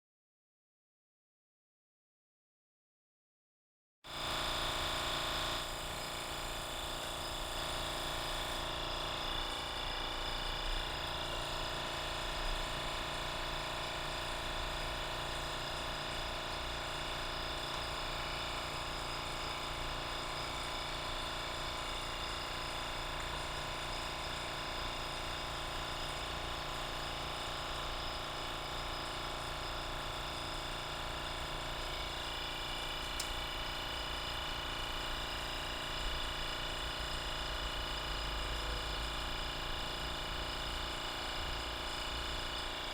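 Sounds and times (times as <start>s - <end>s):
machine hum with constant tones: 4.2s - 42.9s.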